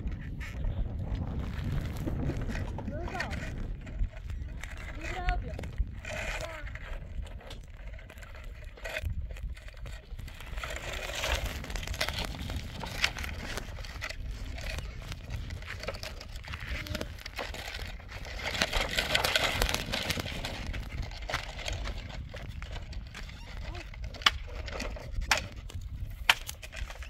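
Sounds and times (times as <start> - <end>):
small clicks and crackles: 0.2 - 27.0
rustling and crinkling handling: 0.4 - 27.0.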